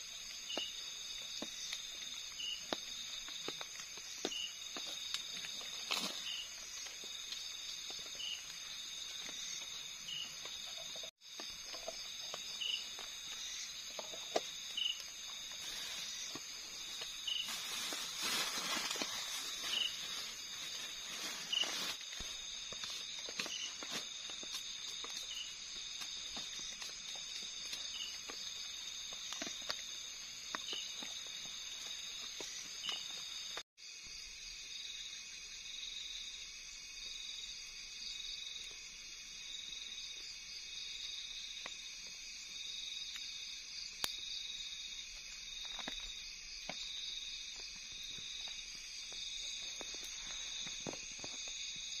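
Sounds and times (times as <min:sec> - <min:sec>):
night insects trilling: 0:00.0 - 0:52.0.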